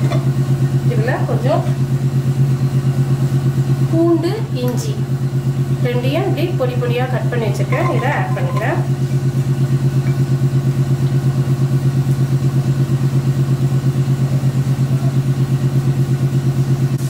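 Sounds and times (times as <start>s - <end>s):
motor humming with even pulse: 0.0s - 17.0s.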